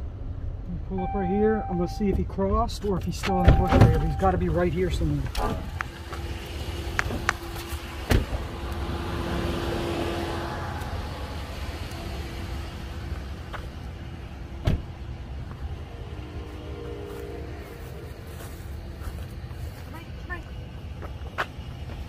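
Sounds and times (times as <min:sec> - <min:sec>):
engine and tyre rumble: 0:00.0 - 0:22.0.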